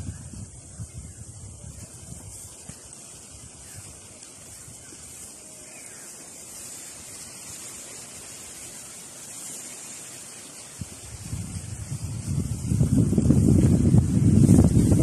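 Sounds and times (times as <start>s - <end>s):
steady outdoor hiss: 0.0s - 15.0s
wind rumbling on microphone: 0.0s - 15.0s.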